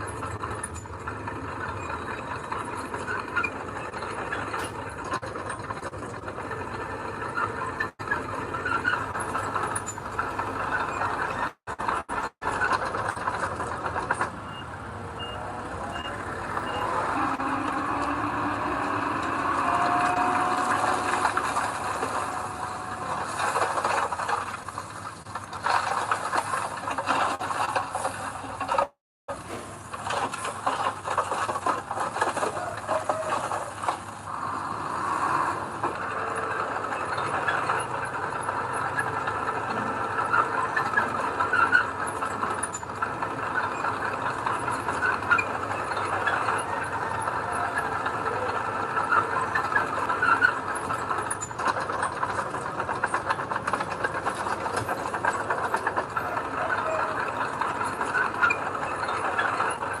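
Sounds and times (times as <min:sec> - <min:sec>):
earthmoving machinery diesel engine: 0:00.0 - 1:00.0
metallic squeaks and clatter: 0:00.0 - 1:00.0.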